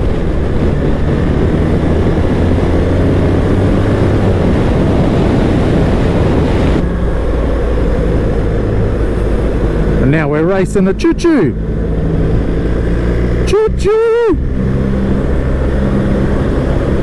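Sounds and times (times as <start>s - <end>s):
motorcycle engine running: 0.0s - 17.0s
wind noise rushing: 0.0s - 17.0s.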